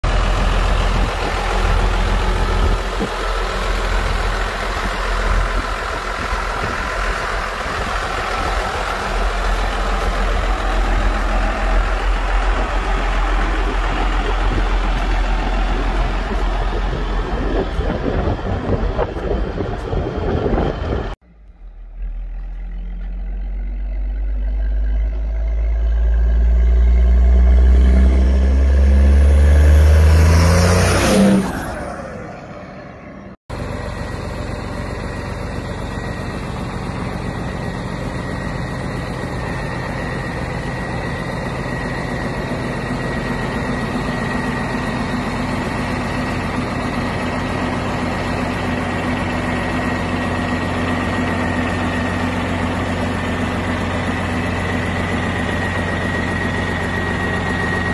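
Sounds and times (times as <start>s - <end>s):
truck engine idling: 0.0s - 29.4s, 32.0s - 57.9s.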